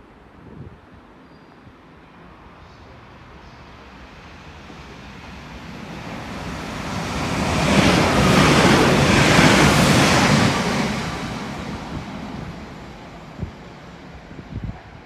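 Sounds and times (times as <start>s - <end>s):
train passing: 1.9s - 15.0s.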